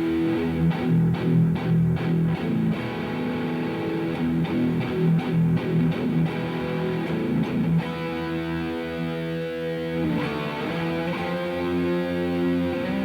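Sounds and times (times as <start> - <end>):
distorted electric guitar riffing: 0.0 - 13.0.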